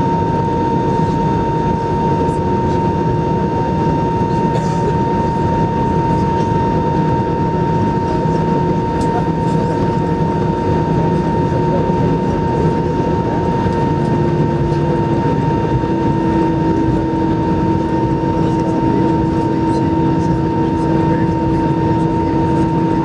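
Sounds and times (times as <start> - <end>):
jet engines idling hum: 0.0 - 23.0.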